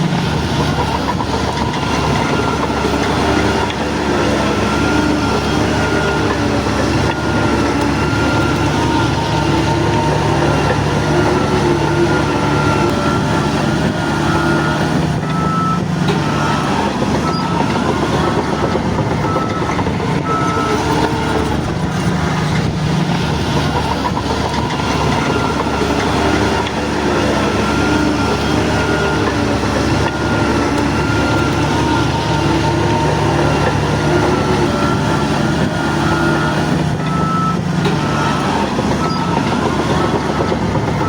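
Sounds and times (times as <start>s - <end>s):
bulldozer diesel engine: 0.0s - 41.0s
crawler tracks clanking: 0.0s - 41.0s.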